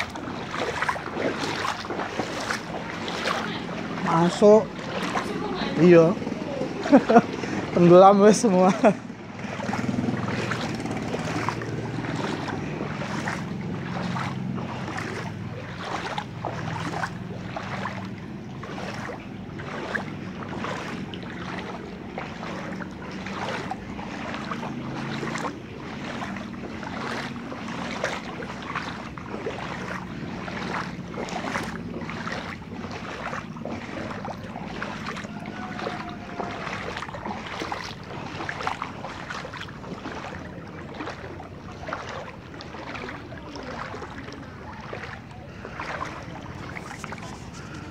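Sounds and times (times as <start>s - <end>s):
water splashing from wading: 0.0s - 47.9s.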